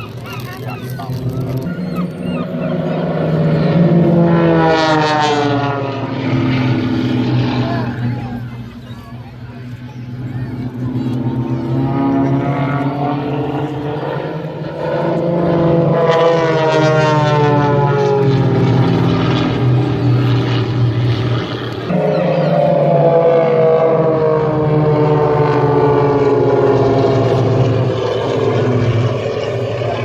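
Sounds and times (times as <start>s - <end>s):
propeller planes flying past: 0.0s - 30.0s.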